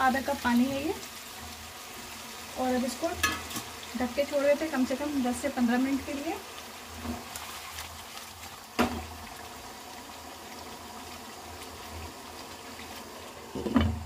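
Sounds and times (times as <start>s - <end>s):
pot bubbling: 0.0s - 14.0s.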